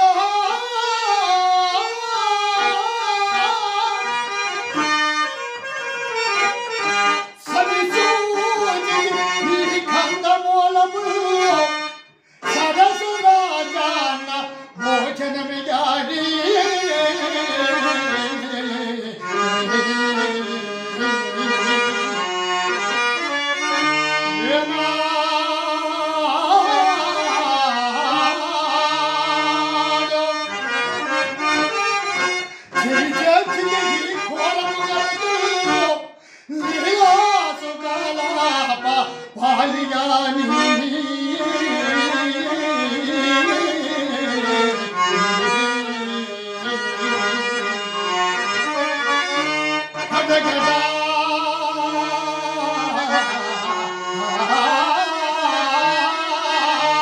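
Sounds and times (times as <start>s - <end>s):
harmonium melody: 0.0s - 57.0s.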